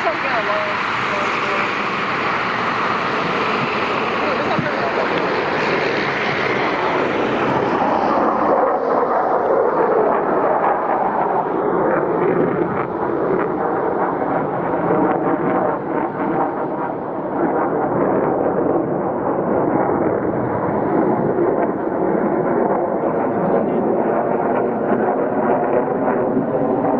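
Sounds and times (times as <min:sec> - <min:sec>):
jet engines roaring overhead: 0:00.0 - 0:26.9.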